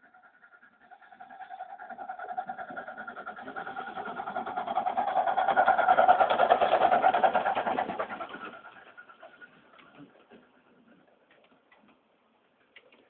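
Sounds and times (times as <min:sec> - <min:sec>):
miniature steam locomotive working hard: 0:00.0 - 0:11.5.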